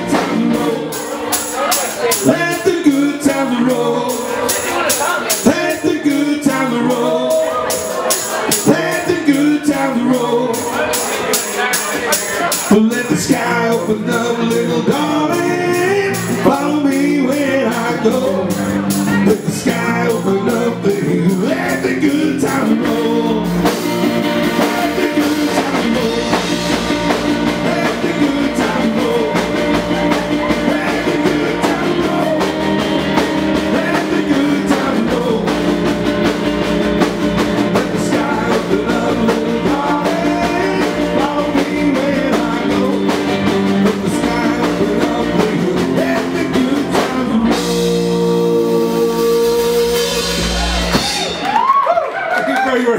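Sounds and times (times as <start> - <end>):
man singing: 0.0 - 50.8
rock and roll band playing: 0.0 - 52.9.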